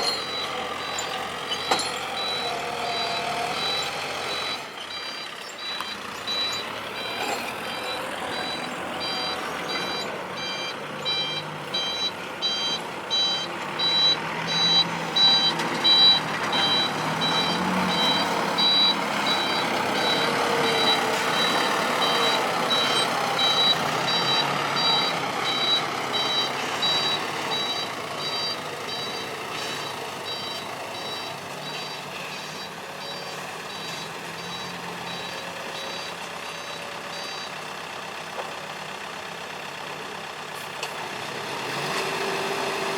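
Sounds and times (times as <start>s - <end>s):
reversing alarm beeping: 0.0s - 37.6s
diesel engine running: 0.0s - 42.9s.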